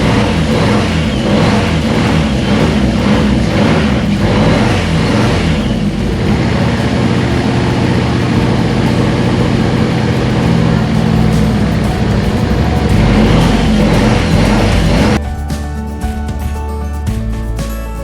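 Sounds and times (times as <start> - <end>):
car engine running: 0.0 - 15.2.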